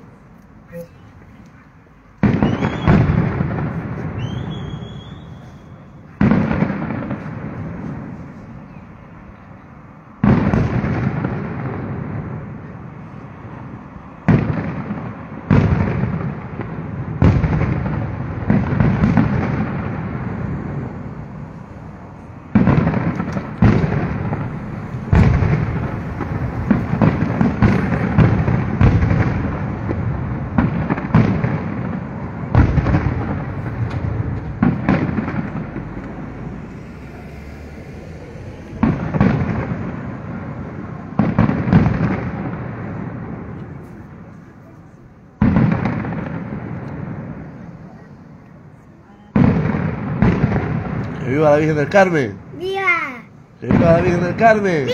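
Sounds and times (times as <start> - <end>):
firework cracks: 0.0 - 44.4, 45.3 - 48.0, 49.3 - 54.9
firework shells booming: 1.8 - 36.9, 37.7 - 44.4, 45.3 - 52.5, 53.6 - 54.9.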